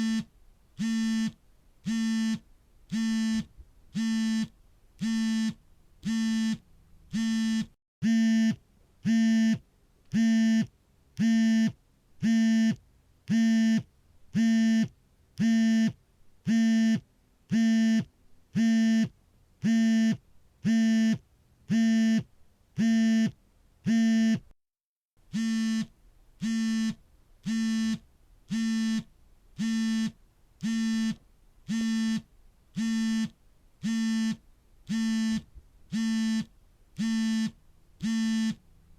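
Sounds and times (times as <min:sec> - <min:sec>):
phone vibration buzzing: 0:00.0 - 0:09.6, 0:10.2 - 0:24.5, 0:25.3 - 0:38.6.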